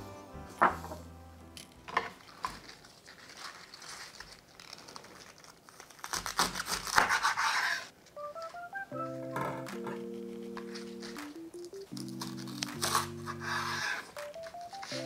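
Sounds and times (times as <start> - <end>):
crinkling and rustling handling: 1.7 - 8.7, 9.4 - 15.0.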